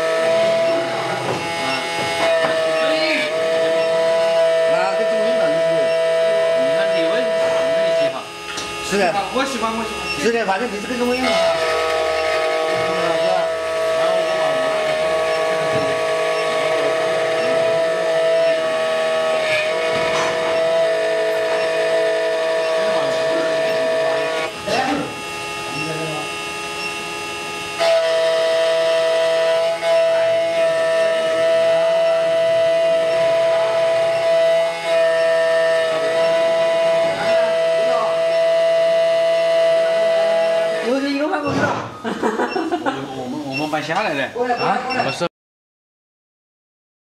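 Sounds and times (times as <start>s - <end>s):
key cutting machine whine: 0.0s - 45.3s.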